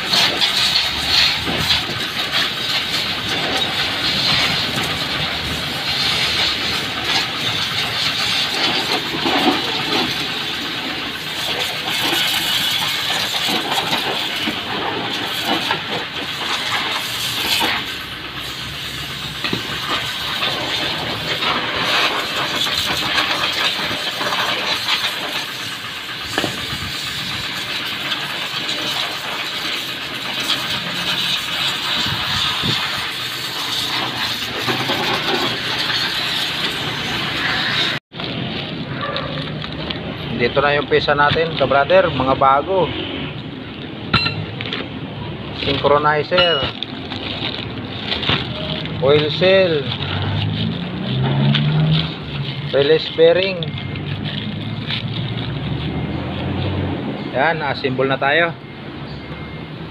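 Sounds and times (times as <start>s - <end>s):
engine running: 0.0s - 40.5s, 43.0s - 57.3s.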